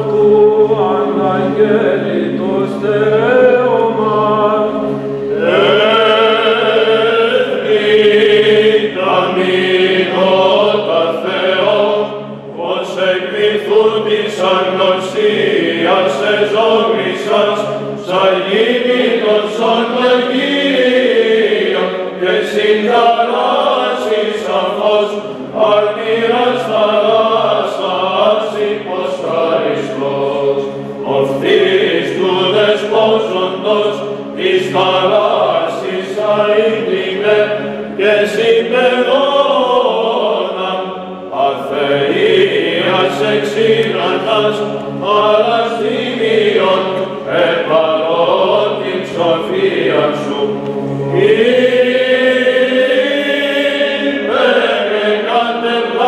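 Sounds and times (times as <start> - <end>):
low held vocal drone: 0.0 - 56.0
men chanting: 0.0 - 56.0.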